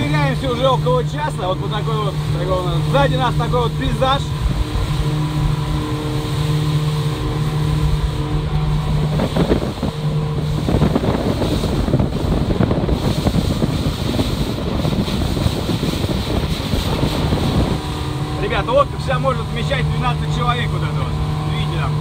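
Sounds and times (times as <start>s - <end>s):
motorboat engine hum: 0.0s - 22.0s
water rushing along hull: 0.0s - 22.0s
wind buffeting microphone: 0.0s - 22.0s.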